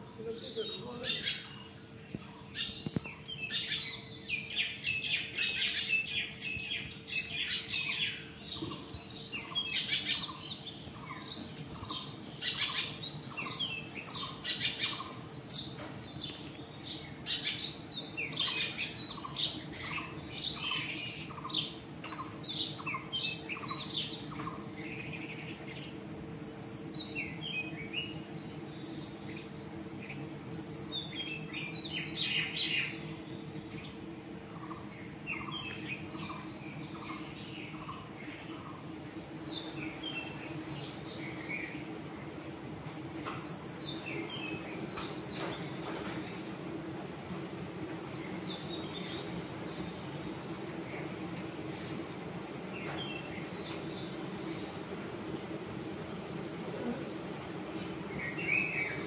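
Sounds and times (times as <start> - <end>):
honeybees humming: 0.0 - 59.0
birds chirping and calling: 0.1 - 59.0.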